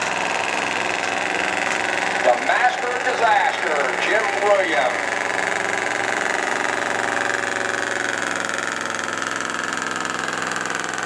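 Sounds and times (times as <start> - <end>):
pickup truck engine under load: 0.0 - 11.0.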